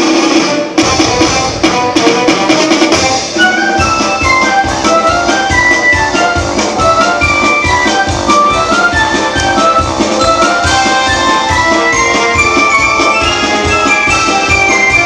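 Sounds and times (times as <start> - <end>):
steady drum beat: 0.0 - 15.0
bright instrumental melody: 0.1 - 15.0.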